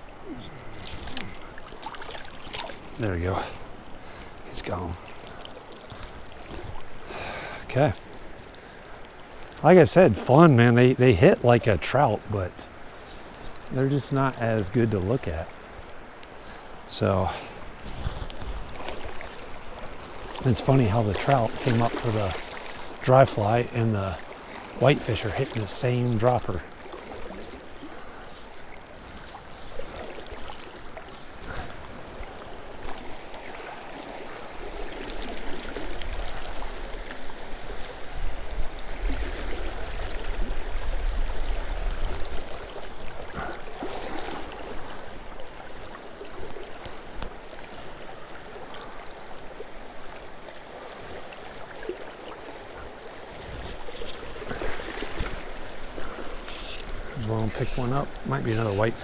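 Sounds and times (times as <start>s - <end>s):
river current rushing: 0.0s - 59.0s.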